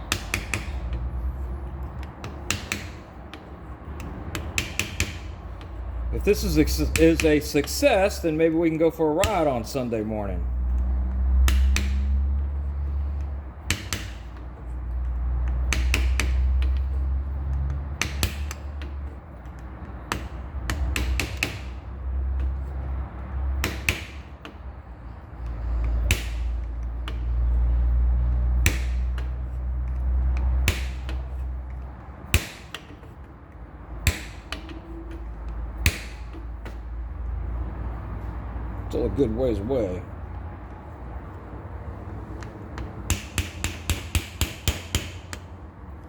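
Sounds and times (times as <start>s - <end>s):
hammer tapping metal: 0.0s - 37.3s, 42.0s - 45.7s.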